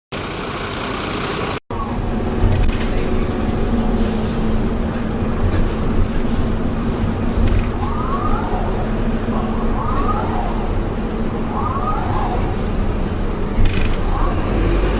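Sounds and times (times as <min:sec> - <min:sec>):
bus engine rumbling: 0:00.1 - 0:14.9.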